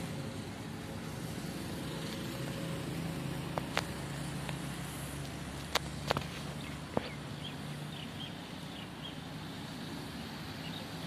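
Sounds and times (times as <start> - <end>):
motorcycle driving past: 0.0 - 10.9
cars driving past: 0.0 - 11.0.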